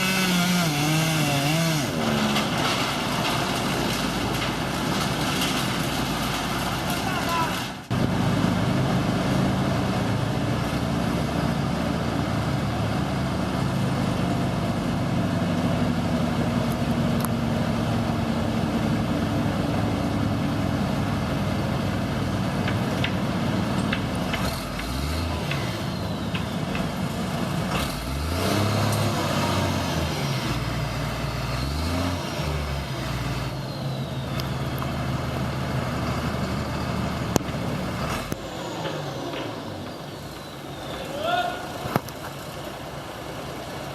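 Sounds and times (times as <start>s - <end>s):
engine running and revving: 0.0s - 6.4s, 7.9s - 40.5s.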